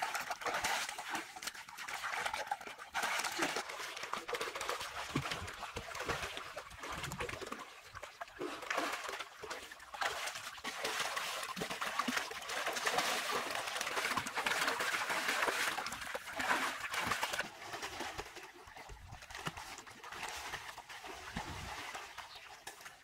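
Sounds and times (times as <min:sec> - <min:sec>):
water splashing in pool: 0:00.0 - 0:23.0.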